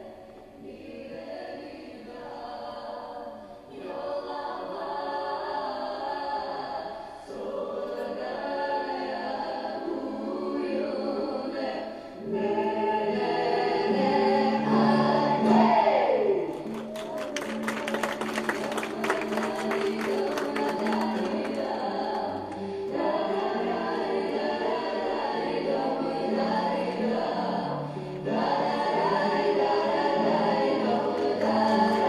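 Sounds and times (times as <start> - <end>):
choir singing dance music: 0.0 - 16.9, 18.4 - 32.0.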